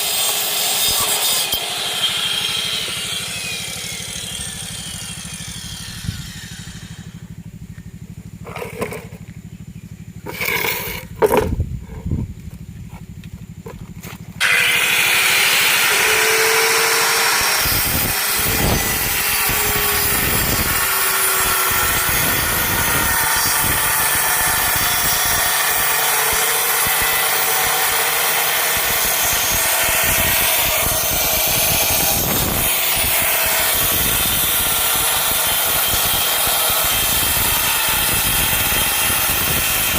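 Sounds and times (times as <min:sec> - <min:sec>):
circular saw cutting plywood: 0:00.0 - 0:07.4, 0:08.4 - 0:09.3, 0:10.2 - 0:12.2, 0:13.7 - 0:39.9.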